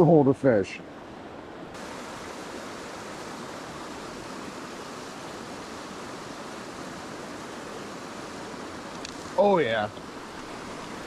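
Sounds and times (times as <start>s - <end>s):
creek rushing over cascade: 0.0s - 11.0s.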